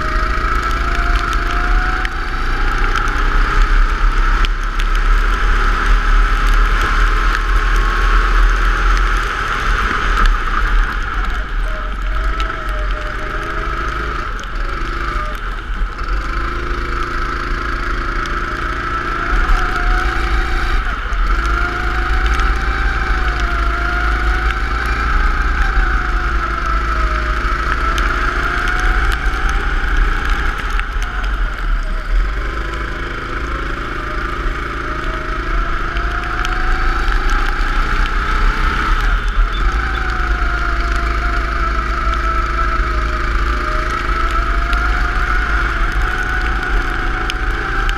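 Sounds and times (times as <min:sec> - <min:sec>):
go-kart engine running: 0:00.0 - 0:47.9.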